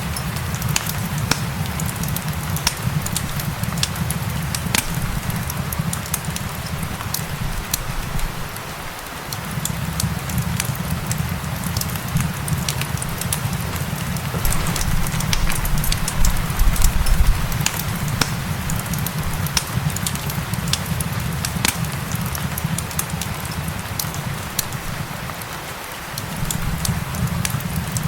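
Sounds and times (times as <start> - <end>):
rain hiss: 0.0 - 28.0
wood fire crackling: 0.0 - 28.0.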